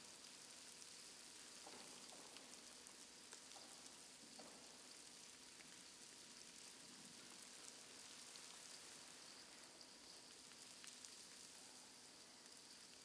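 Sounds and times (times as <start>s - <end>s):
faint hiss: 0.0s - 13.0s
tiny crackles: 0.0s - 13.0s.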